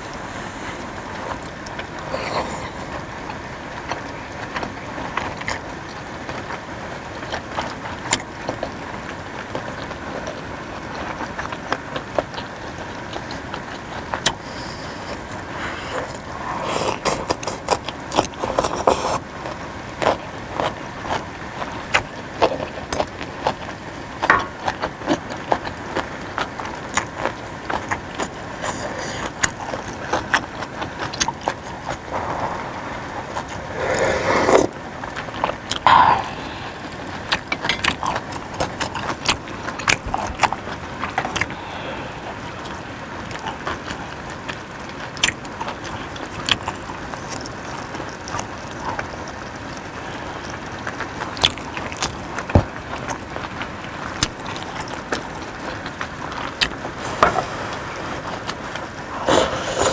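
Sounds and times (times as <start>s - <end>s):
chewing and mouth sounds: 0.0s - 59.9s.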